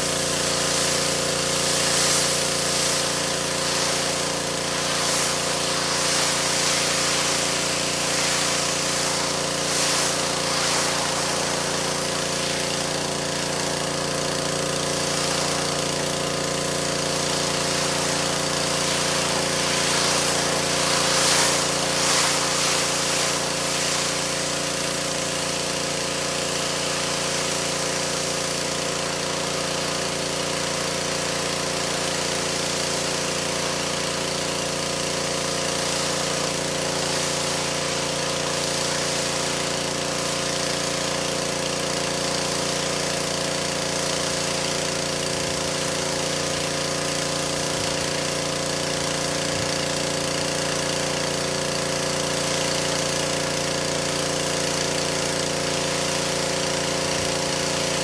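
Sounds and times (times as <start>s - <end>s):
pressure washer motor hum: 0.0s - 58.0s
water spray hissing: 0.0s - 58.0s.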